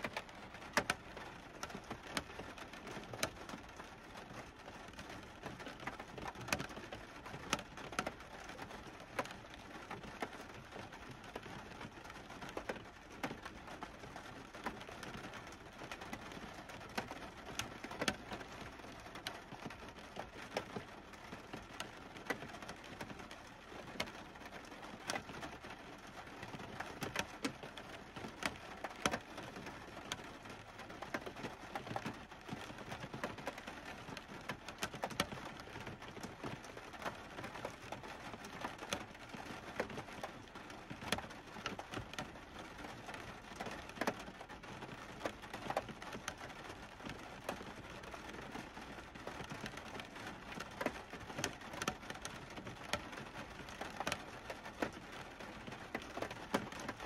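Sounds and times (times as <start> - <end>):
rain on car roof: 0.0 - 57.0.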